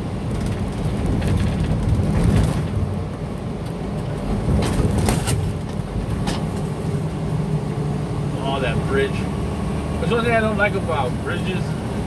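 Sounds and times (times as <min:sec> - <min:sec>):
diesel engine running: 0:00.0 - 0:12.0
road noise: 0:00.0 - 0:12.0
truck jolts and rattles: 0:00.0 - 0:12.0.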